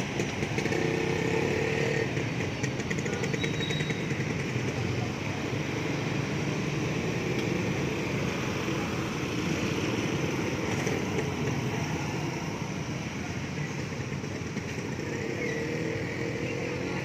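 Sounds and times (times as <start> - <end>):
vehicle road and engine noise: 0.0 - 17.0.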